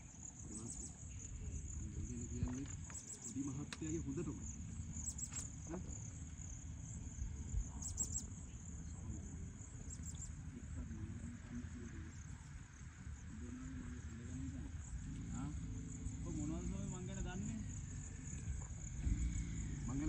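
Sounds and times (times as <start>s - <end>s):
distant voices: 0.0s - 20.0s
insect chirring: 0.0s - 20.0s.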